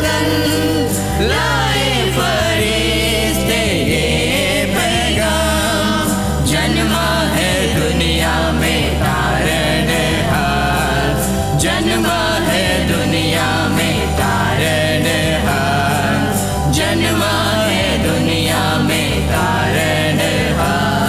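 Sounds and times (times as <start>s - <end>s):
electronic keyboard with bass line: 0.0s - 21.0s
group of people singing: 0.0s - 21.0s.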